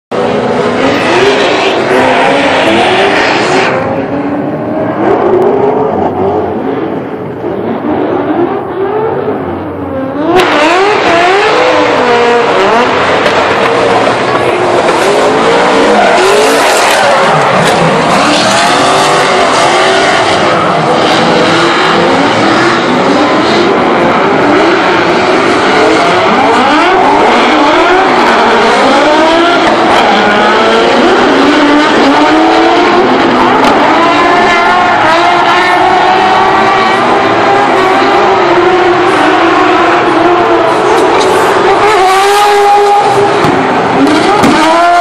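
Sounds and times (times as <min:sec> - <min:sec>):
car engines revving hard: 0:00.1 - 0:45.0.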